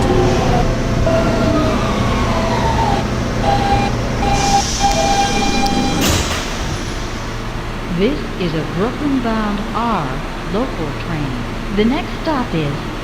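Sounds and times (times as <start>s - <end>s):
subway car rumble: 0.0s - 13.0s
train traction motors whining: 0.0s - 13.0s.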